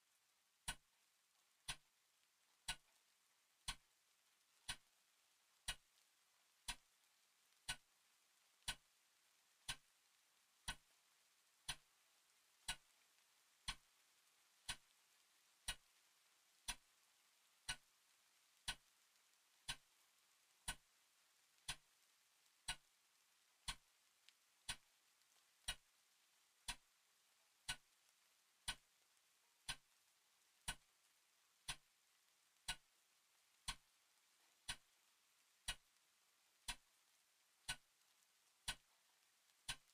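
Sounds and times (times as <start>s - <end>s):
faint steady hiss: 0.0s - 39.9s
clock ticking: 0.5s - 11.0s, 11.6s - 21.0s, 21.6s - 39.9s.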